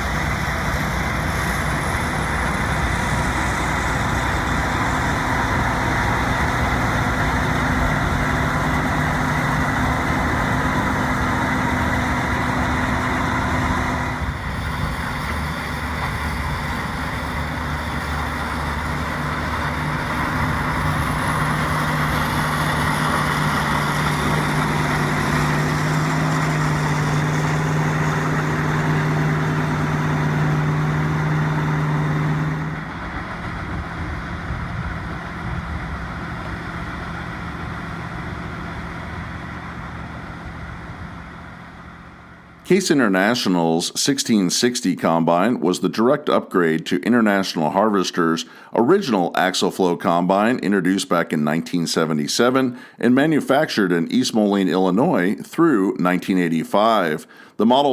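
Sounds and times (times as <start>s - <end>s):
combine harvester droning: 0.0s - 57.9s.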